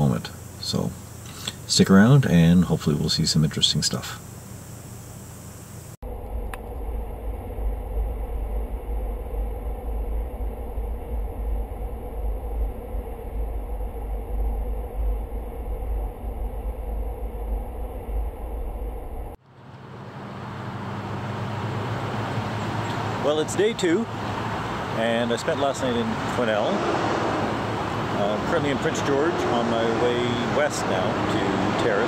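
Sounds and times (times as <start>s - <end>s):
vehicle road and engine rumble: 0.0s - 6.8s, 10.1s - 32.0s.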